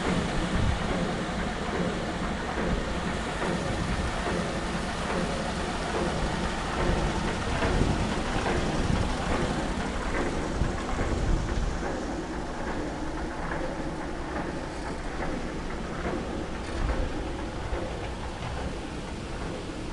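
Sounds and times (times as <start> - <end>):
running machinery: 0.0 - 19.9
rushing water: 0.0 - 19.9.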